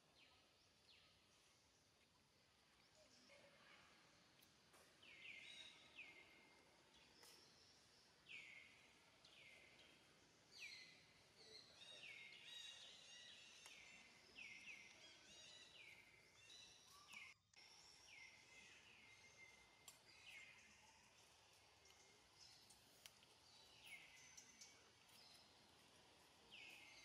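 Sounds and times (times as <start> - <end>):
faint bird chirps: 0.0 - 27.0
faint outdoor hiss: 0.0 - 27.0.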